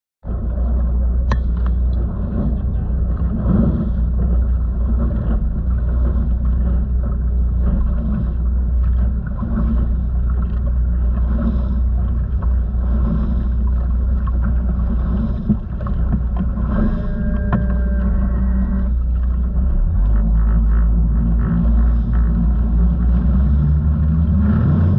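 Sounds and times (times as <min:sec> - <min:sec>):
boat outboard engines roaring: 0:00.2 - 0:24.9.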